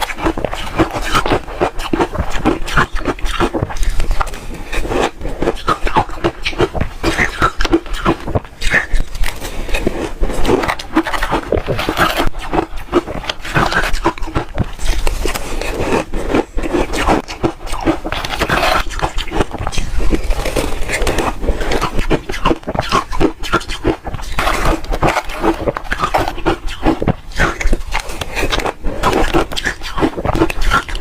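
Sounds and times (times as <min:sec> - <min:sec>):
ice being chewed with crunches: 0:00.0 - 0:31.0.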